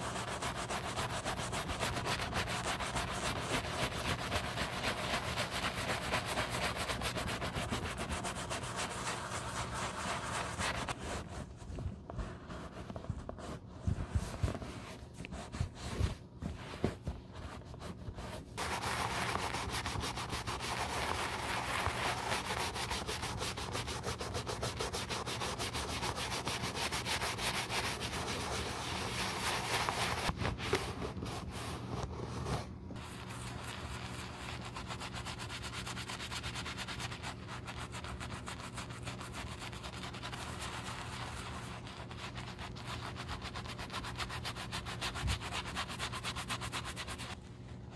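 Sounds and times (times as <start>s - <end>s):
bristle brush scrubbing leather: 0.0s - 11.5s, 12.2s - 30.3s, 31.8s - 47.4s
cloth rubbing on leather shoe: 0.0s - 47.4s.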